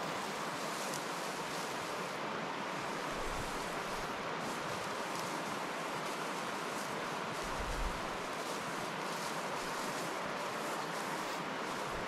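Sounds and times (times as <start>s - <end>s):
steady wind: 0.0s - 12.0s.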